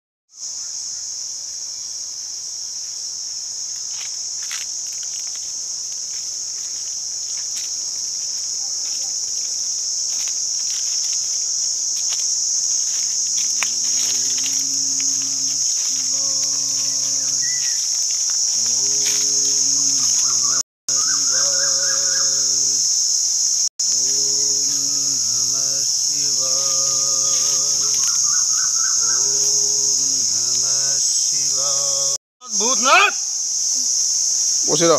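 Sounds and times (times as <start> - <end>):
insects buzzing: 0.3 - 34.9.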